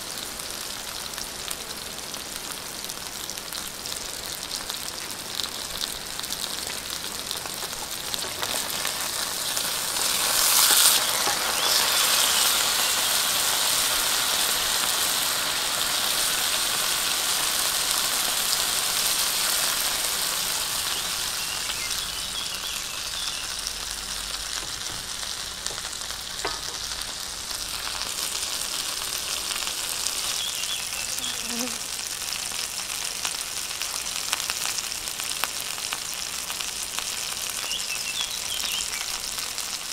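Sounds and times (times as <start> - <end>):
steak sizzling in a frying pan: 0.0 - 39.9.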